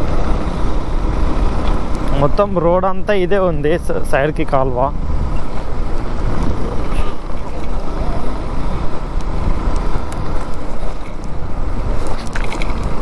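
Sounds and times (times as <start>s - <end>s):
motorcycle road and engine noise: 0.0s - 13.0s
wind buffeting microphone: 0.0s - 13.0s.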